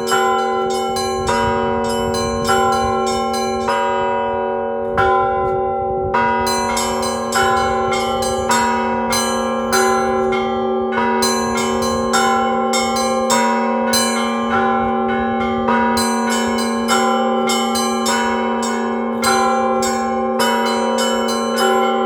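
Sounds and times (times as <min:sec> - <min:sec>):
deep bell humming: 0:00.0 - 0:22.0
middle bells striking: 0:00.0 - 0:22.0
small high bells ringing: 0:00.0 - 0:22.0.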